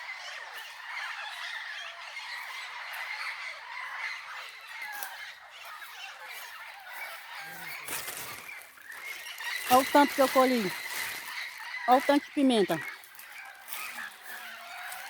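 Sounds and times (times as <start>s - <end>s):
parrots chattering and squawking: 0.1s - 15.0s.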